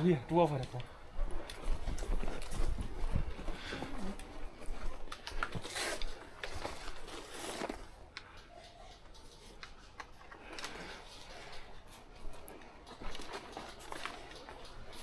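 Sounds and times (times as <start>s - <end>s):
clothing and gear rustling: 1.0s - 8.2s, 9.2s - 15.0s.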